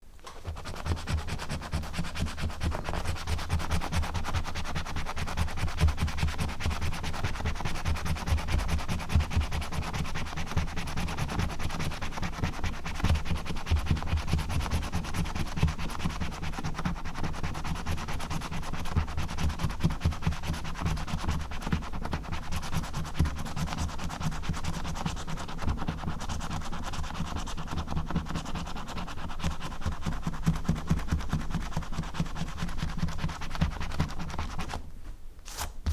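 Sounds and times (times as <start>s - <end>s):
scratch card being scratched: 0.2s - 35.9s.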